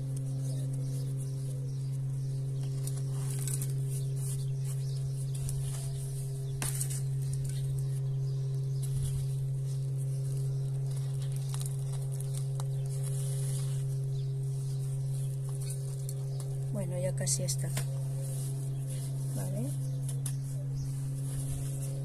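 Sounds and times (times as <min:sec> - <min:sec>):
low hum: 0:00.0 - 0:22.0
trowel scraping potting soil: 0:02.6 - 0:08.1, 0:08.7 - 0:22.0.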